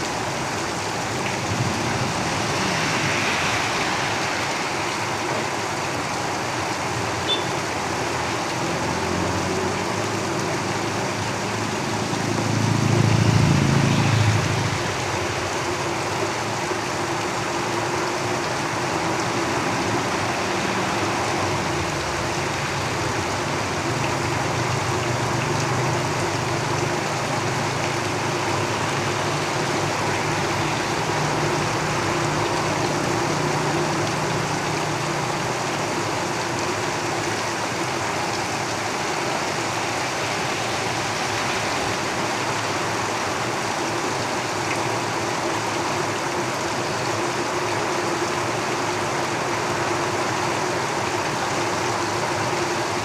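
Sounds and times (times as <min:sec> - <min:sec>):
rain drumming on a tin roof: 0:00.0 - 0:53.0
road vehicles rumbling past: 0:00.0 - 0:53.0.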